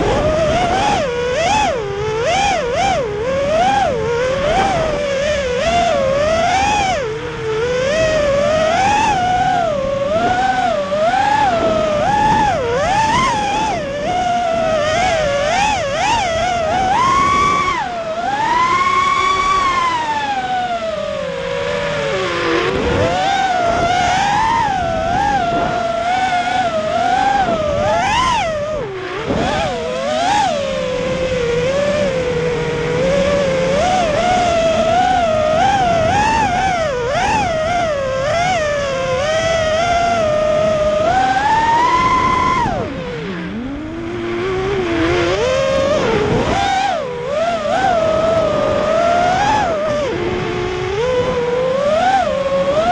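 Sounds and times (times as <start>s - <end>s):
drone propellers whining: 0.0s - 52.9s.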